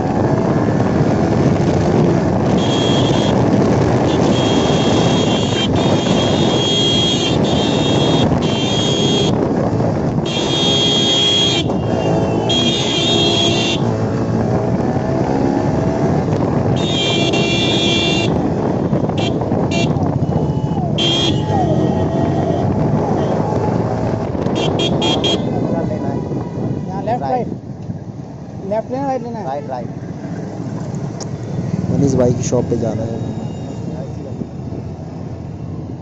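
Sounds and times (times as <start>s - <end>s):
road and traffic noise: 0.0s - 36.0s.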